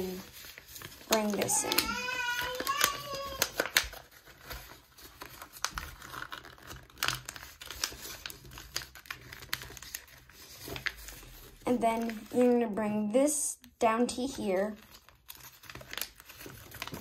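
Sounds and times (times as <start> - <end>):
paper folding and crinkling: 0.0 - 13.0, 14.1 - 17.0.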